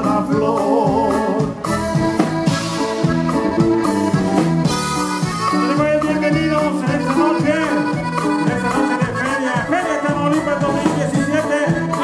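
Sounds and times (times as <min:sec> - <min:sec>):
accordion: 0:00.0 - 0:12.0
drums: 0:00.0 - 0:12.0
live band playing: 0:00.0 - 0:12.0
saxophone: 0:01.6 - 0:12.0.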